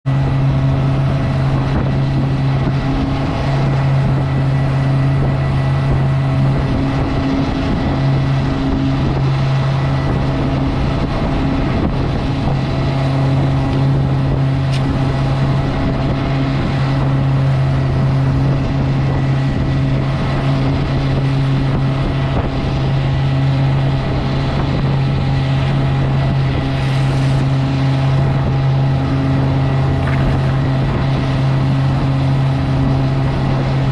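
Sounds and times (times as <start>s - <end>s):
motorboat engine humming: 0.1s - 22.0s, 22.6s - 33.9s.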